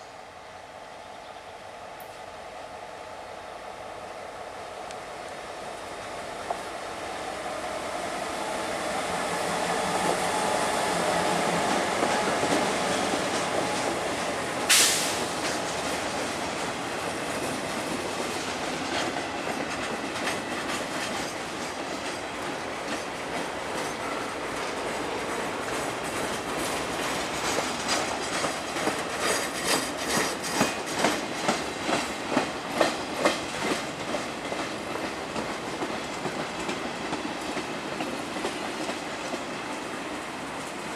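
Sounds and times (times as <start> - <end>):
train wheels clickety-clack: 6.4 - 7.1, 7.9 - 40.9.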